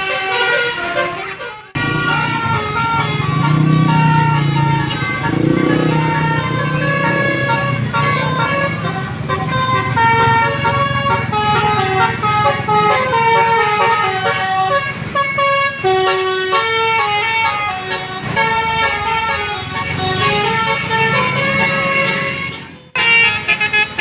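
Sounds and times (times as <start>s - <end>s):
multi-tone musical bus horn: 0.0s - 24.0s.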